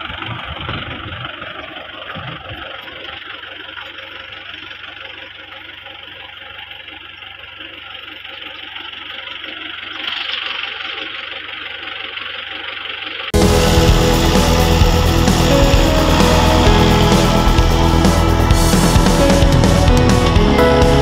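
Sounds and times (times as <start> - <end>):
tractor engine running steadily: 0.0 - 21.0.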